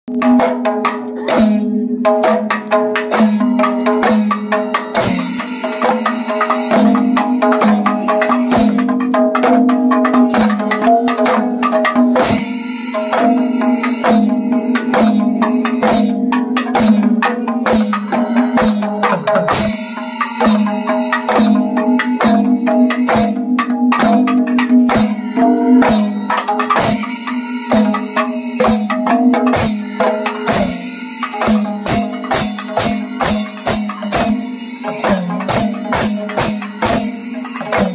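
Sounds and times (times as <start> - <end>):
barrel drums played by hand: 0.1 - 37.9
steady ringing drum tone: 0.1 - 37.9.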